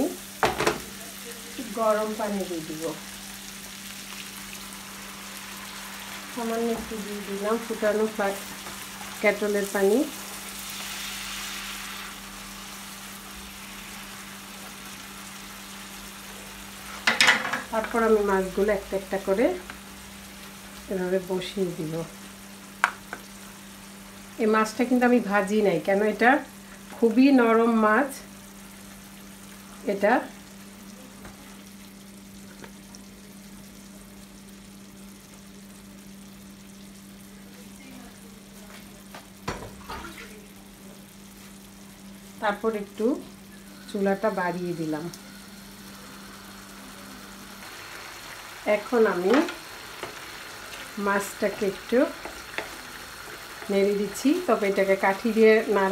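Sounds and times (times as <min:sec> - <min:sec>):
sauce sizzling in a frying pan: 0:00.0 - 0:55.9.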